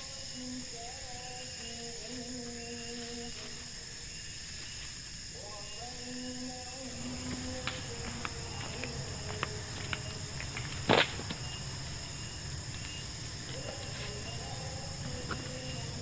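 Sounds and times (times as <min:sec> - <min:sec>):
night insects chorus: 0:00.0 - 0:16.0.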